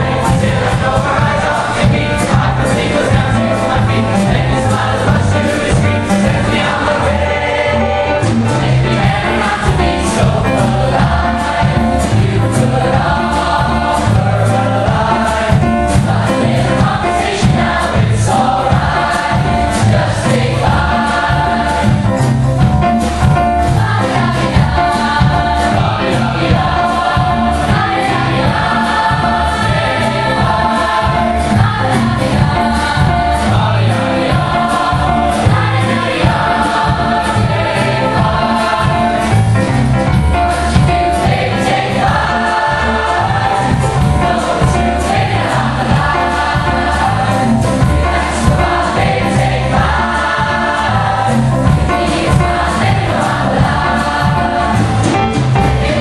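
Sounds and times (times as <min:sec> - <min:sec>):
children's choir singing: 0:00.0 - 0:56.0
drum kit beat: 0:00.0 - 0:56.0
live band playing: 0:00.0 - 0:56.0.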